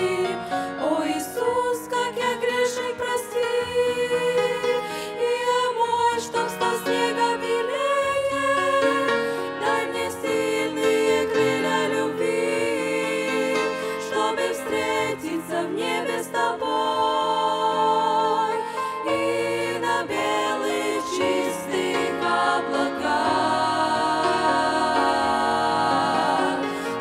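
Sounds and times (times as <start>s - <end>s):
piano accompaniment: 0.0s - 27.0s
women singing in harmony: 0.0s - 27.0s.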